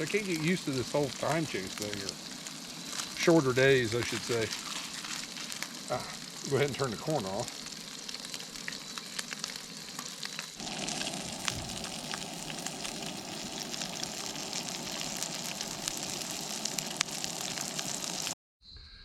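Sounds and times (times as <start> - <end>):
burgers sizzling in a frying pan: 0.0 - 18.4.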